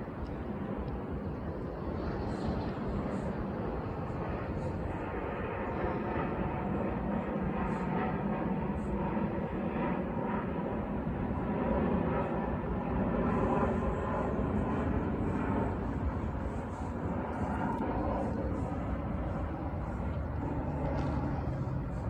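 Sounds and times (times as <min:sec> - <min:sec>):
airplane engines drone: 0:00.0 - 0:22.0.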